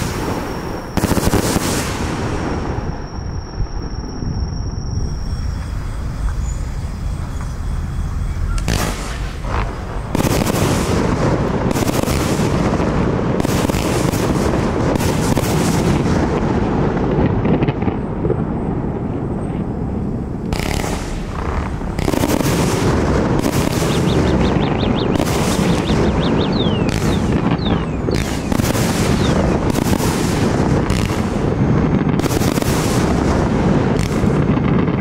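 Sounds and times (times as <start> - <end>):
fireworks barrage: 0.0 - 35.0.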